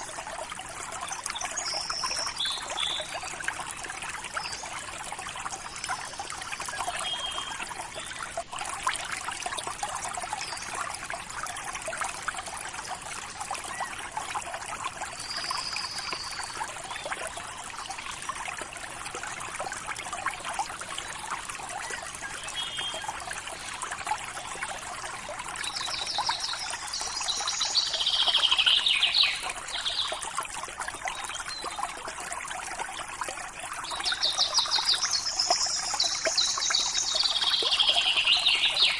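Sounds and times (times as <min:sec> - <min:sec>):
river water trickling: 0:00.0 - 0:38.9.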